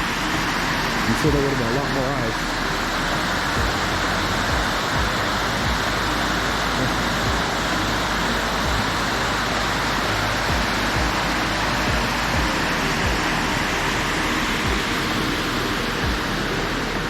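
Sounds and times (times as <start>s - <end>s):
waterfall cascading: 0.0s - 17.0s.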